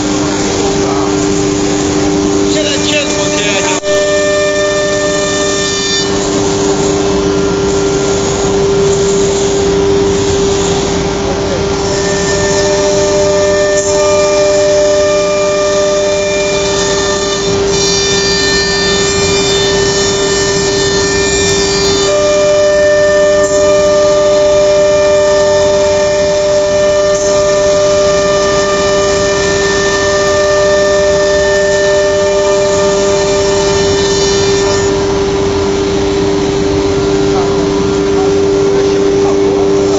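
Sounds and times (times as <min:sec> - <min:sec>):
cnc router machine whine: 0:00.0 - 0:39.9.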